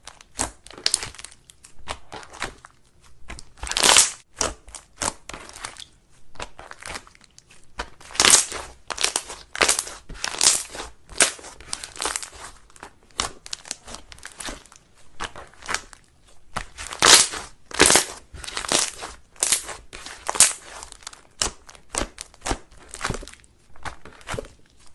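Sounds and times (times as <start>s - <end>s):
slime squishing: 0.0s - 24.9s.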